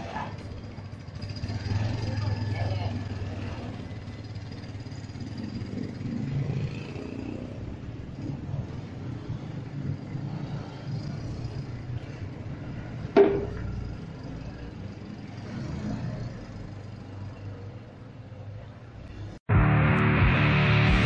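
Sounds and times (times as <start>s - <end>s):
motorcycle engine running: 0.0s - 17.4s
road traffic rumble: 0.0s - 21.0s.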